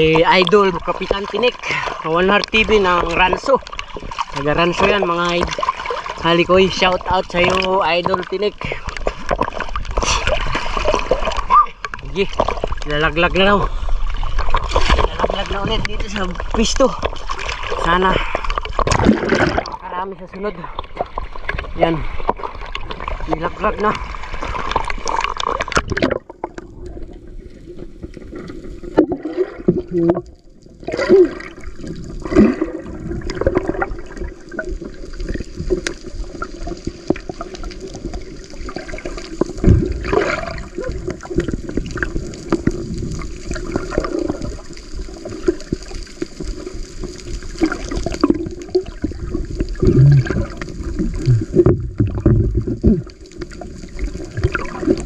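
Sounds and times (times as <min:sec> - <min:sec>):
muffled underwater sloshing: 0:00.0 - 0:55.0.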